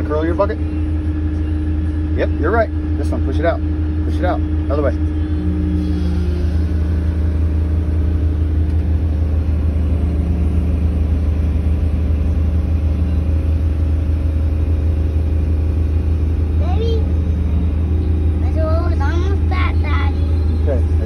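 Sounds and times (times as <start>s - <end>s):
diesel engine low hum: 0.0s - 21.0s
hydraulic drone: 0.0s - 21.0s.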